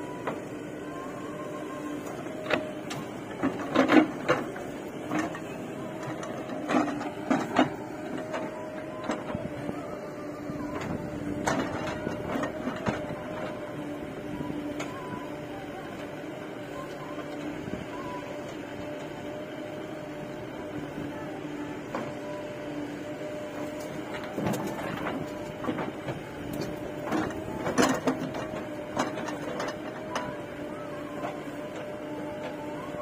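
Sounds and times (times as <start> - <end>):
diesel engines humming: 0.0 - 33.0.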